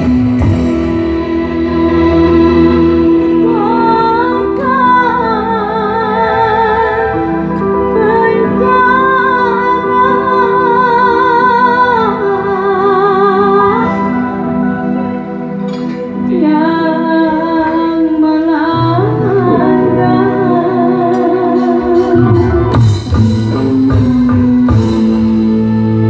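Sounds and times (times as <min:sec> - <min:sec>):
woman singing with vibrato: 0:00.0 - 0:26.0.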